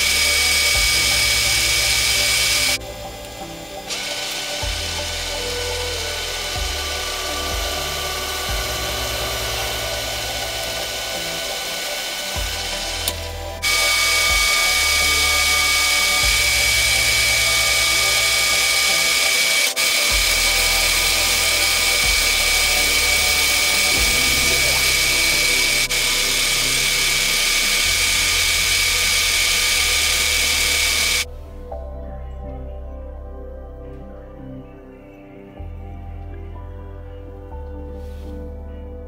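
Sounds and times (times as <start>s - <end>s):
metal lathe whining: 0.0s - 31.3s.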